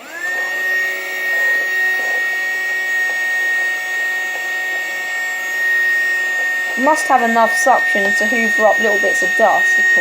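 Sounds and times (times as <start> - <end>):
small vacuum motor whining: 0.0 - 10.0.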